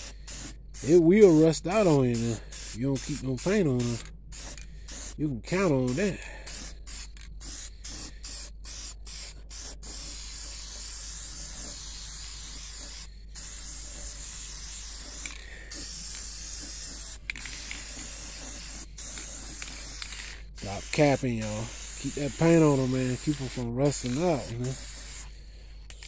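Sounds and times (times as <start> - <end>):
spray paint can hissing: 0.0 - 26.0.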